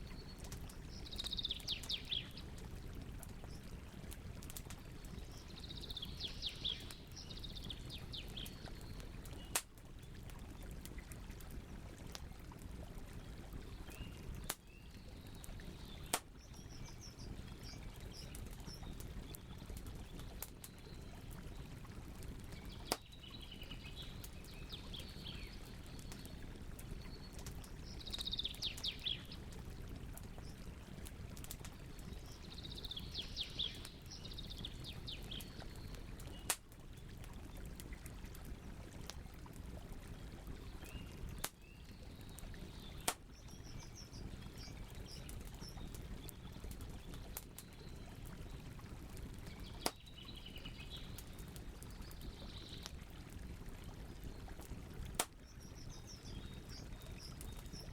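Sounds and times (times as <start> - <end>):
campfire crackling and popping: 0.0 - 57.9
songbirds chirping: 0.0 - 57.9.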